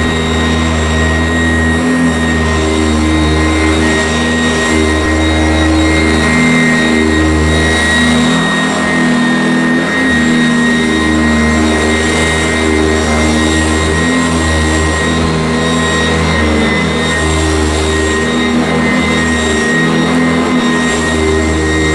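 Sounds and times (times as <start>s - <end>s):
vacuum cleaner running: 0.0s - 21.9s.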